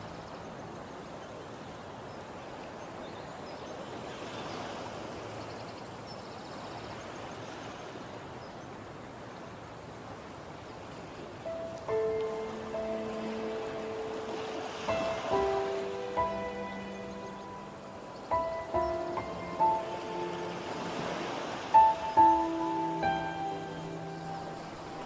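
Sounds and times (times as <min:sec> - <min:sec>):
small waves washing on shore: 0:00.0 - 0:25.0.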